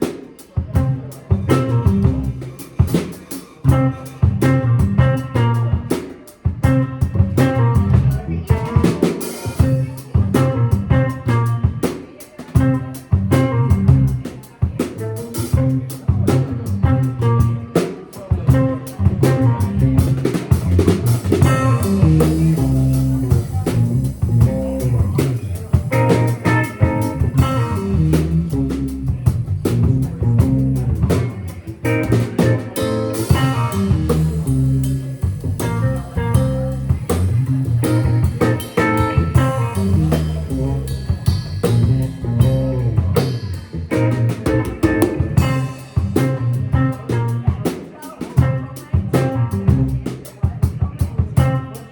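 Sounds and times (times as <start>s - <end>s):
electric guitar: 0.0s - 47.5s, 51.4s - 51.9s
bass guitar: 0.0s - 51.9s
drum kit: 0.0s - 51.9s.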